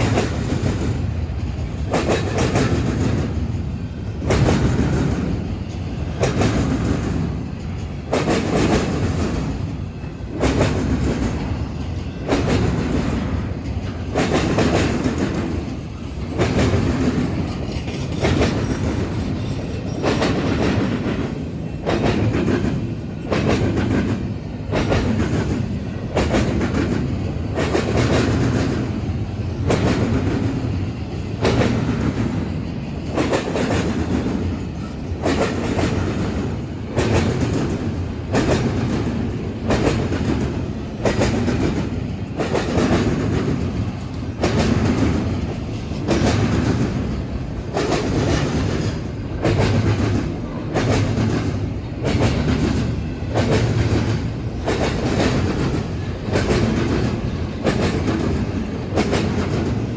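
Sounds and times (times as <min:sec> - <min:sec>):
rumble of passing train cars: 0:00.0 - 0:59.9
train wheels clanking over crossing: 0:00.0 - 0:59.9.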